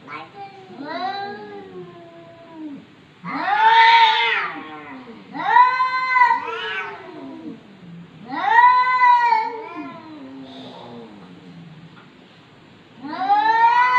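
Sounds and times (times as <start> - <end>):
cats yowling: 0.0 - 7.6, 8.2 - 11.3, 13.0 - 13.9
cats moaning low: 0.0 - 12.1, 13.0 - 13.9.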